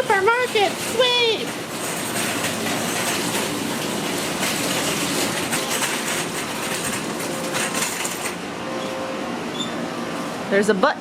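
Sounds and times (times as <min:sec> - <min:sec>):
luggage cart wheels rattling: 0:00.0 - 0:08.9.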